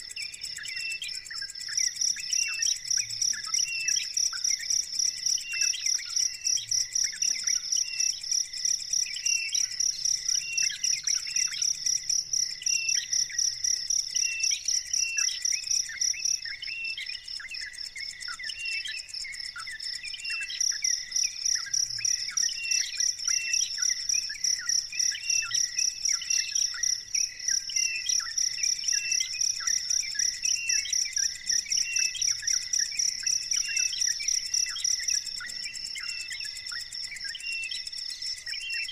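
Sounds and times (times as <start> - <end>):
bird chirps: 0.0 - 38.9
cricket trilling: 0.0 - 38.9.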